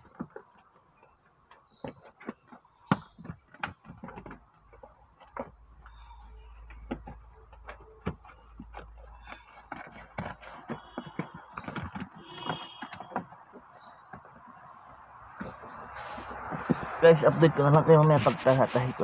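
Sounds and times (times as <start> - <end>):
hands working on plastic trim: 0.0 - 17.0.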